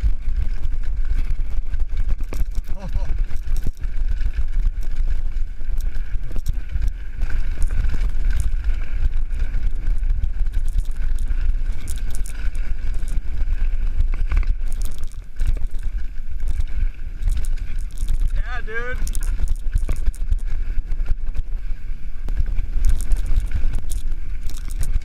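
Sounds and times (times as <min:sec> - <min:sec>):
mountain bike rattling: 0:00.0 - 0:25.0
wind buffeting microphone: 0:00.0 - 0:25.0.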